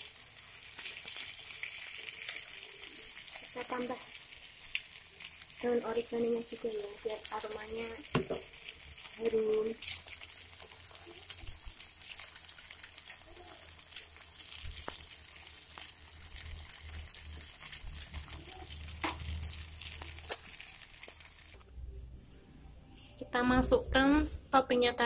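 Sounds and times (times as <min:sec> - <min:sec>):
food sizzling in a frying pan: 0:00.0 - 0:21.6.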